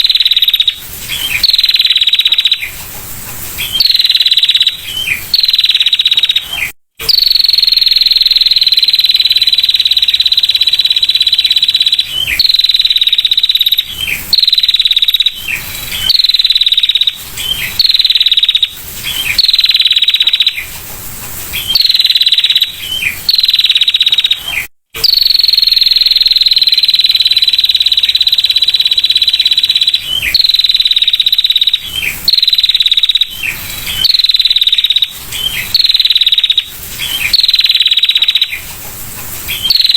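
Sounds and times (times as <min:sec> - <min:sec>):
bird rattling trill: 0:00.0 - 0:39.9.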